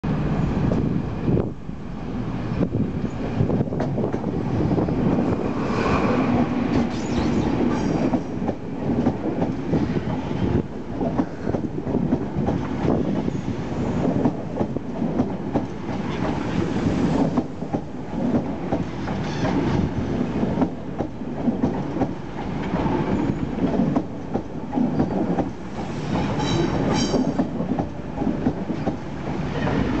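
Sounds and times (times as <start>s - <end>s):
diesel train rolling past: 0.0s - 30.0s.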